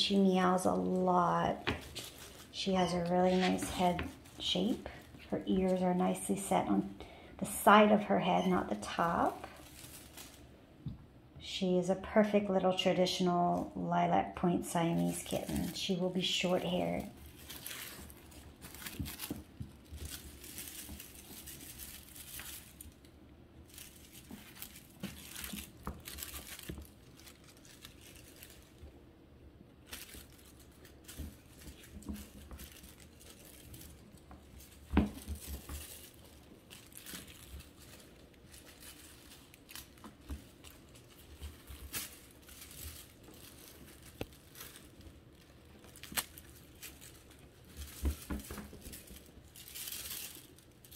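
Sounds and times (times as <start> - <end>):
feather toy rustling and crinkling: 0.0 - 11.4, 12.3 - 50.9.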